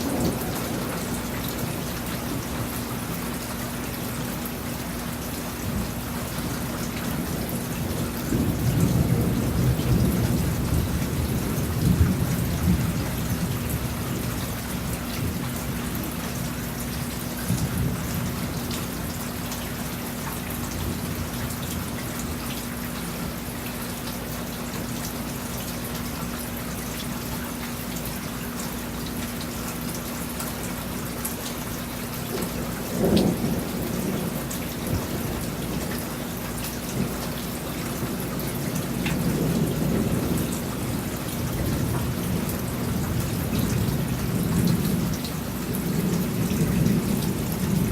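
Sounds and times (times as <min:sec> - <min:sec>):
low rumble of thunder: 0:00.0 - 0:24.1, 0:28.6 - 0:47.9
steady rain falling: 0:00.0 - 0:47.9.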